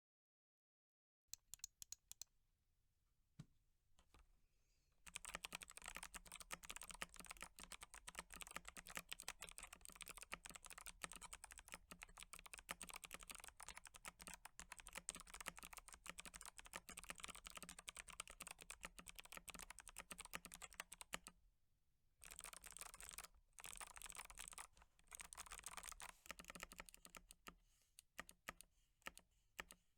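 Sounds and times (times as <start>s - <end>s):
clicky keyboard typing: 1.4s - 2.3s, 5.1s - 21.3s, 22.2s - 29.8s.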